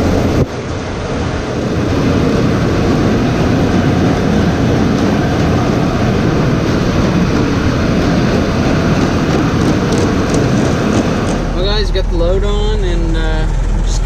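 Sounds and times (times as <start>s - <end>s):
heavy machinery rumbling and clattering: 0.0s - 14.0s.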